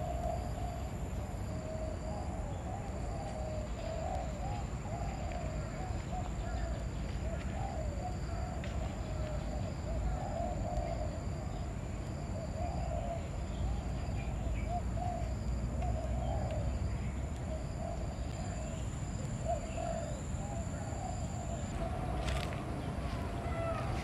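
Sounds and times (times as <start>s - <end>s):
bird cooing: 0.0s - 0.9s, 1.6s - 11.6s, 12.4s - 22.6s.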